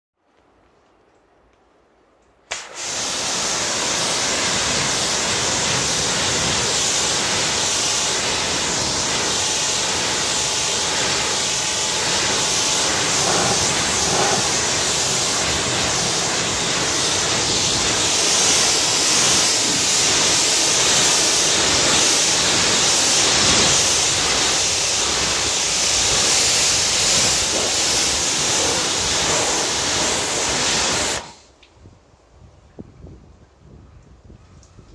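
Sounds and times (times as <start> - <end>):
pressure washer spraying: 2.5 - 31.4.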